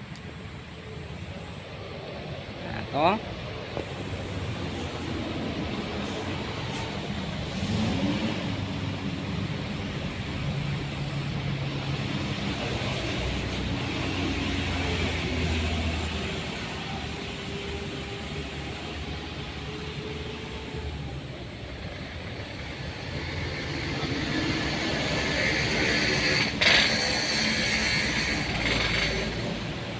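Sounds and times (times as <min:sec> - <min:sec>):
vehicles passing on road: 0:00.0 - 0:29.9.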